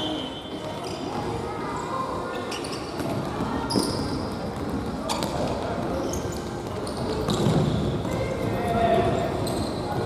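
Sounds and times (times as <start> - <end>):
sneaker squeaks: 0.0 - 1.3, 2.4 - 10.0
players' voices in a hall: 0.0 - 10.0.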